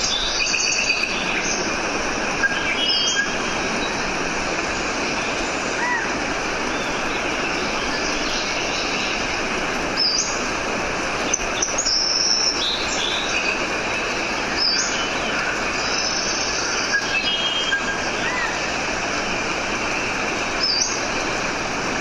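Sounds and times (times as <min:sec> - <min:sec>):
birds chirping and whistling: 0:00.0 - 0:21.3
steady rushing hiss: 0:00.0 - 0:22.0.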